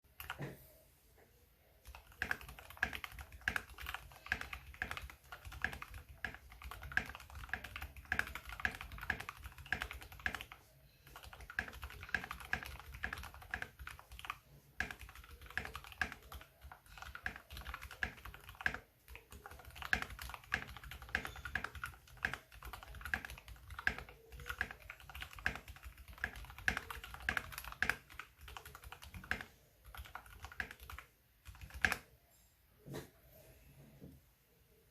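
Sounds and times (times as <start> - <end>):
mechanical keyboard typing: 0.1 - 0.4, 1.8 - 32.1.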